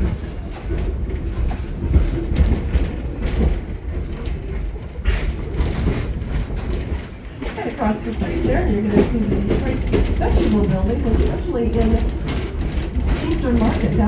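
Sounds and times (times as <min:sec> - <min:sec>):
clacks and knocks of wheels: 0:00.0 - 0:14.0
train rumbling on track: 0:00.0 - 0:14.0.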